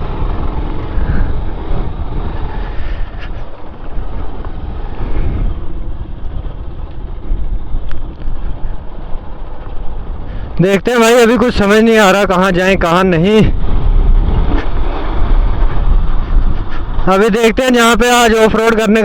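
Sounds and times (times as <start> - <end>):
motorcycle running: 0.0 - 19.0
wind rumble on microphone: 0.0 - 19.0.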